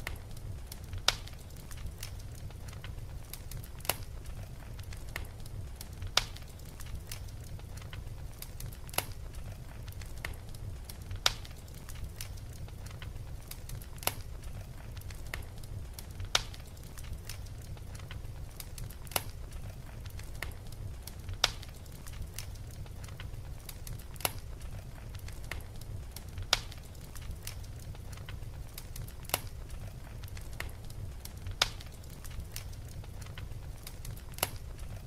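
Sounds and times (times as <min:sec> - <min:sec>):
fire crackling and popping: 0:00.0 - 0:35.0.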